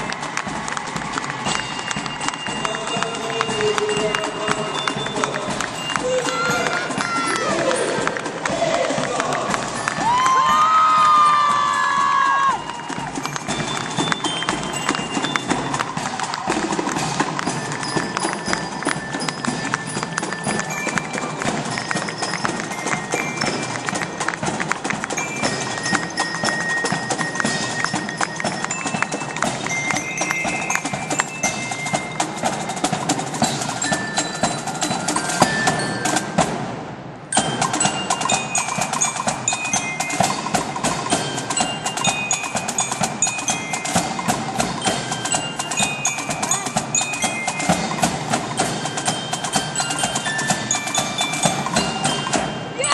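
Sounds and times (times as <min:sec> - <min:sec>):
rapid drumbeats: 0:00.0 - 0:52.9
ringing glockenspiel notes: 0:00.0 - 0:52.9.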